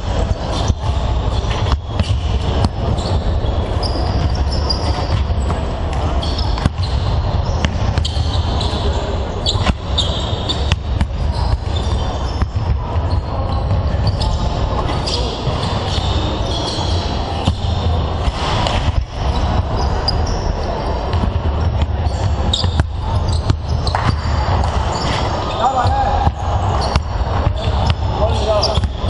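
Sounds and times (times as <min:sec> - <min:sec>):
basketballs bouncing on wooden court: 0:00.1 - 0:29.0.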